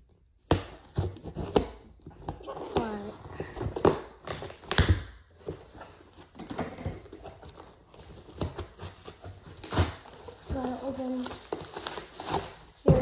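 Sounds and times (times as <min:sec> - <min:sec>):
rummaging in cardboard box: 0:00.8 - 0:13.0.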